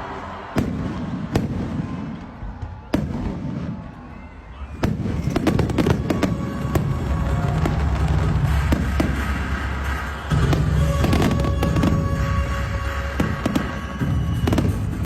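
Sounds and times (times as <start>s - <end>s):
firework bangs: 0.4s - 4.1s, 4.8s - 15.0s.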